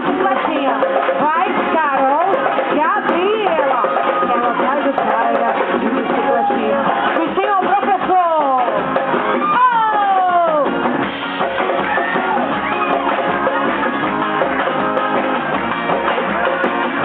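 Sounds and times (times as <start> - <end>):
band music with drums and guitar: 0.0 - 17.0.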